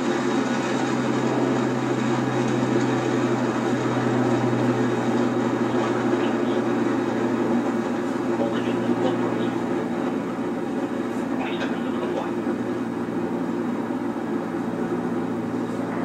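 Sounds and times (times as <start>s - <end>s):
rocket engines roaring: 0.0s - 16.0s.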